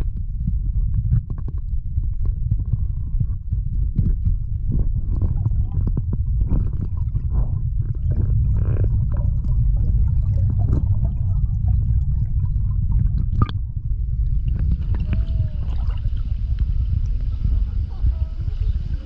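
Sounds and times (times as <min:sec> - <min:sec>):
faint water sounds: 0:02.6 - 0:19.0
boat motor rumbling: 0:02.9 - 0:19.0.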